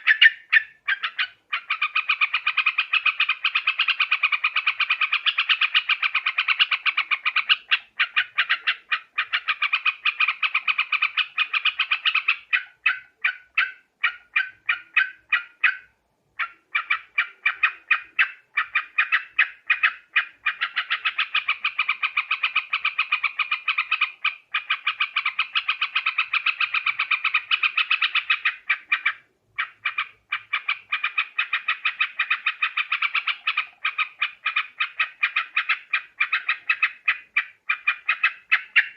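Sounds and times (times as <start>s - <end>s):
bulbuls chattering calls: 0.0s - 38.9s.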